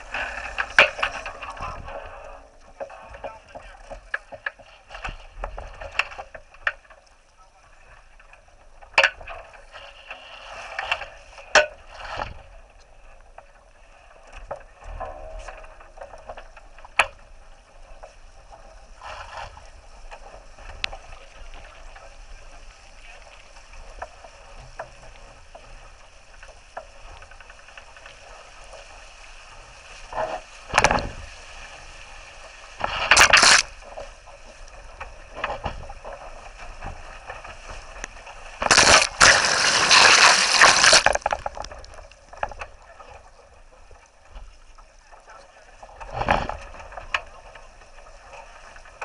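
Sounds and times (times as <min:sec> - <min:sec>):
water rushing past hull: 0:00.0 - 0:49.0.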